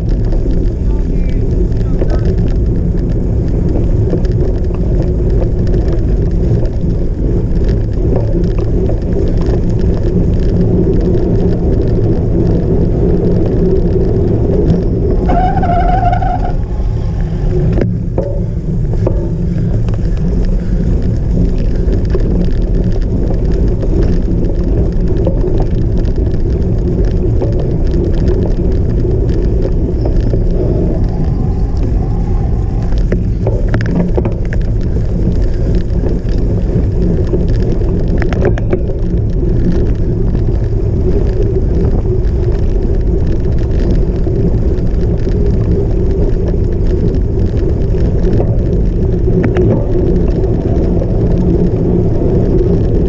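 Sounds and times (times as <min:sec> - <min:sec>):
bike rumbling over rough ground: 0:00.0 - 0:53.0.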